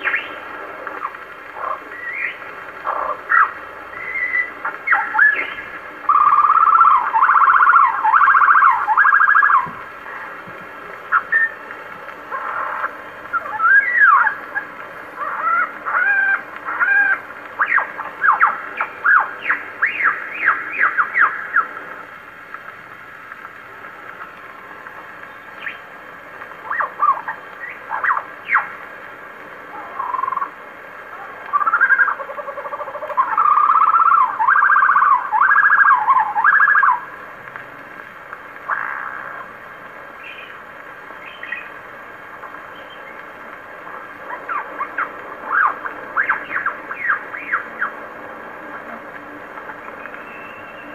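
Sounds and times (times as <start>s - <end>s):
bird song on gramophone record: 0.0s - 50.9s
record hiss: 0.0s - 50.9s.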